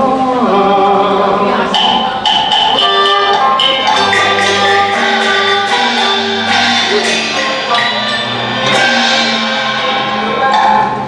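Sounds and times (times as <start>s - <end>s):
chinese traditional ensemble music: 0.0s - 11.0s.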